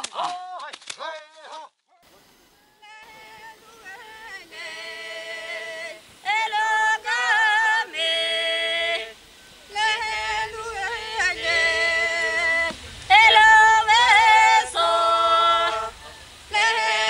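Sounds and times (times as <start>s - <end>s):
unaccompanied voices singing: 2.1s - 17.0s.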